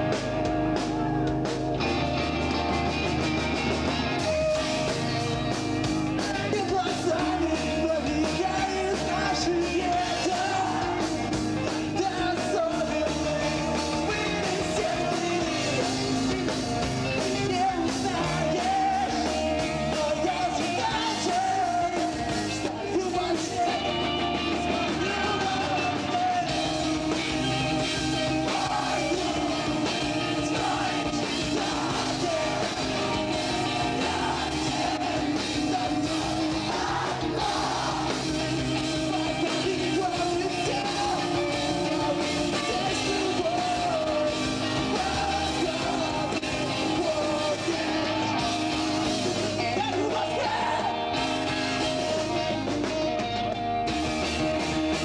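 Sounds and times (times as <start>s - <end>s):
rock band playing live: 0.0s - 55.0s
person singing: 6.2s - 27.6s, 28.3s - 52.3s.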